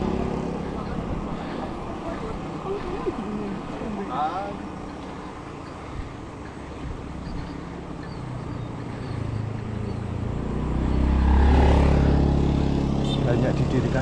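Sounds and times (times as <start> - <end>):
vehicle engine approaching: 0.0 - 14.0.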